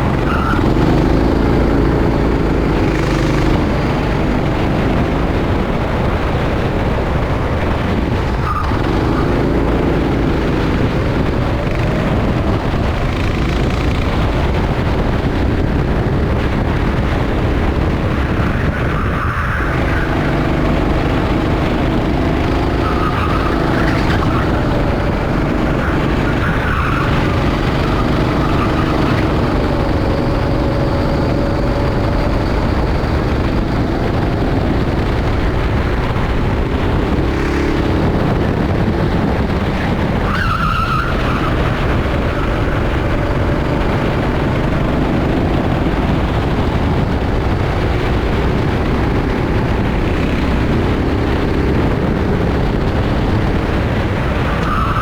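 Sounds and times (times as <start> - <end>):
kart engine racing: 0.0 - 55.0
wind and road noise: 0.0 - 55.0.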